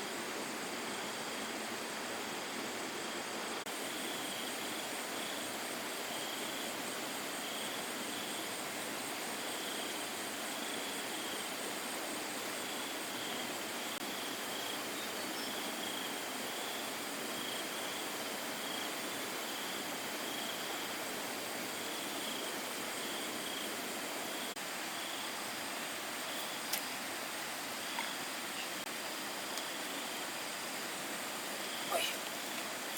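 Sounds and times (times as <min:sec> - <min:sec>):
insects chirping: 0:00.0 - 0:32.9.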